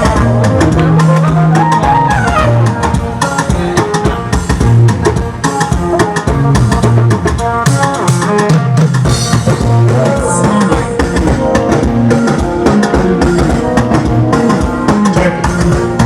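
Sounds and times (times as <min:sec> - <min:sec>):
drum kit beat: 0:00.0 - 0:16.0
guitar: 0:00.0 - 0:16.0.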